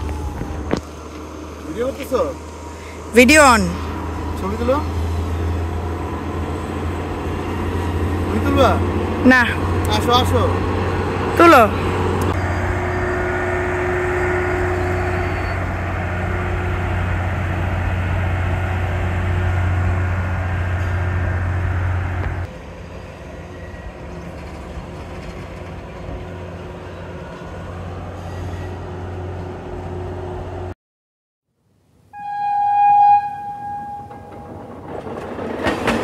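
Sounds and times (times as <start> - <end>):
diesel train engine drone: 0.0 - 30.8, 31.8 - 36.0.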